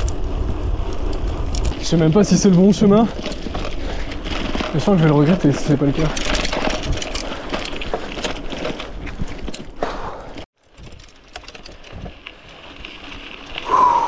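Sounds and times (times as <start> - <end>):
bike rattling clicks: 0.0 - 13.7
tyres crunching on rough path: 0.0 - 14.0.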